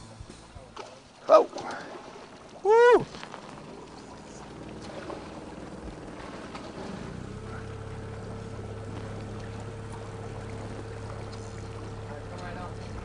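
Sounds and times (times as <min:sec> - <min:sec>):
boat engine humming: 0:00.0 - 0:13.0
river water rushing: 0:01.1 - 0:13.0.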